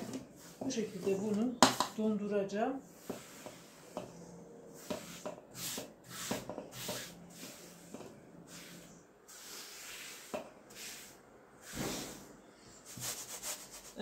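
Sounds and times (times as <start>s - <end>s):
hand sweeping floured board: 0.0s - 1.9s, 2.9s - 4.2s, 4.8s - 14.0s.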